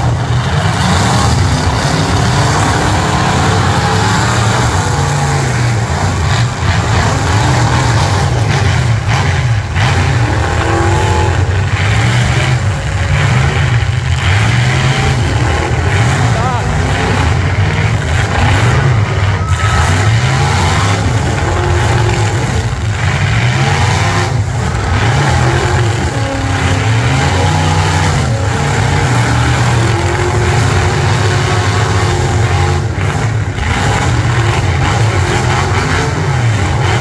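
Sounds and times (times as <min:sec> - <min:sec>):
car engines revving hard: 0:00.0 - 0:37.0.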